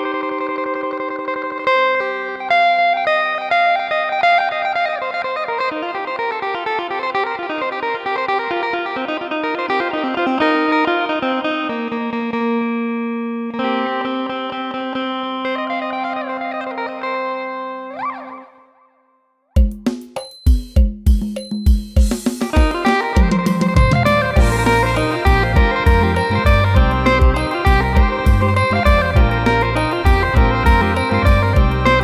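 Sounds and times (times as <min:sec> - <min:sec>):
amplified plucked lute melody: 0:00.0 - 0:18.7, 0:22.5 - 0:32.0.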